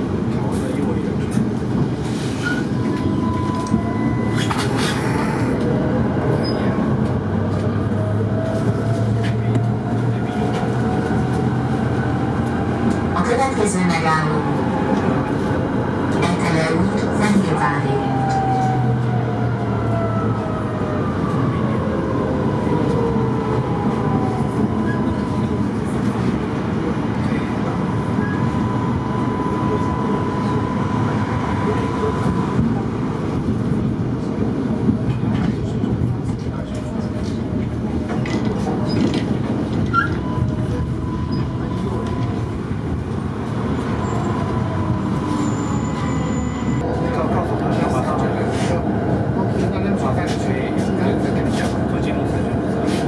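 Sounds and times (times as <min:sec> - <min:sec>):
tram wheels rumbling on rails: 0:00.0 - 0:53.0.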